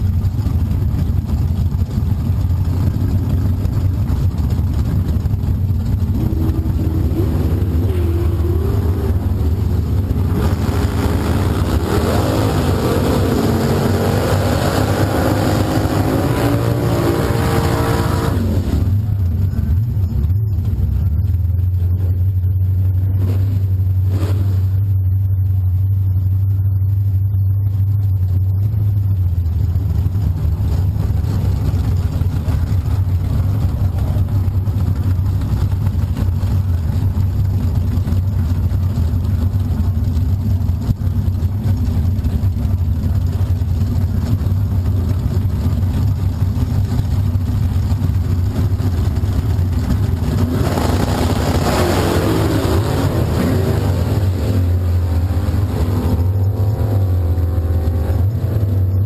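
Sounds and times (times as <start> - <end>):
drag car engine idling: 0.0 - 59.0
louder fuller engine noise: 0.0 - 59.0.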